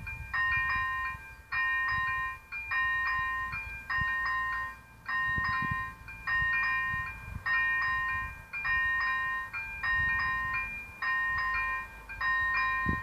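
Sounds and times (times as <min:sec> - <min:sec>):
level crossing electronic bell: 0:00.3 - 0:13.0.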